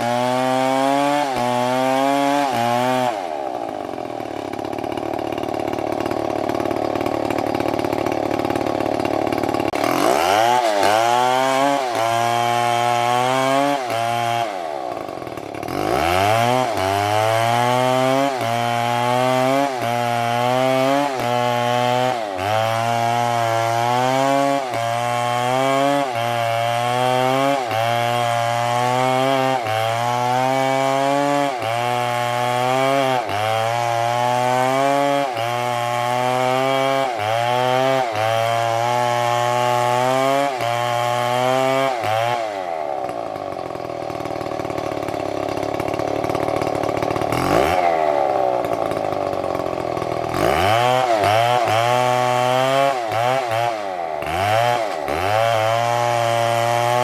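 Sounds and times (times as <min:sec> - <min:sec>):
chainsaw engine cutting wood: 0:00.0 - 0:57.0.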